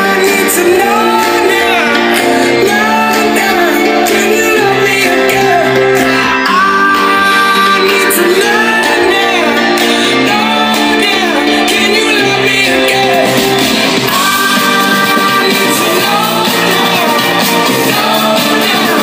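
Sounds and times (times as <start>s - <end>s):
song playing through speaker: 0.0s - 19.0s.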